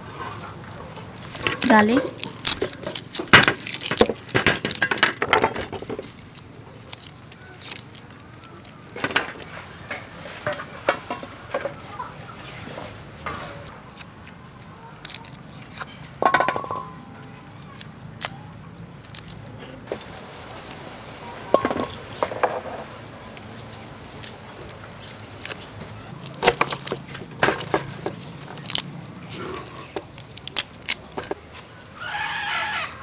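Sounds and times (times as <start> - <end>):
garlic skins crackling and tearing: 0.0 - 33.0.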